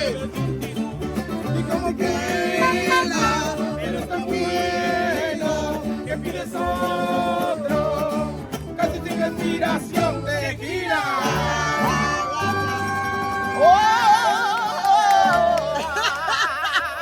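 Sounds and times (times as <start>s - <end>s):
repeating bass line: 0.0s - 13.7s
guitars playing: 0.0s - 15.9s.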